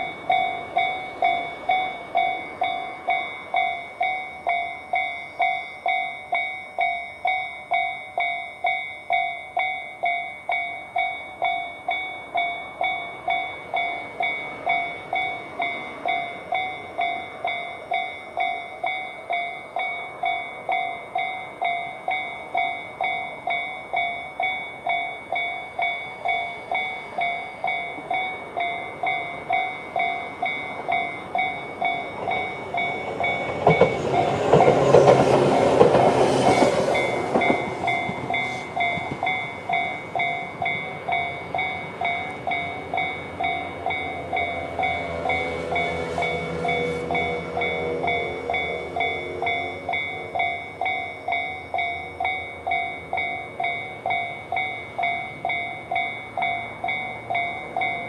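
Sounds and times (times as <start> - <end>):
electric train passing: 0.0 - 58.0
level crossing warning bells: 0.0 - 58.0.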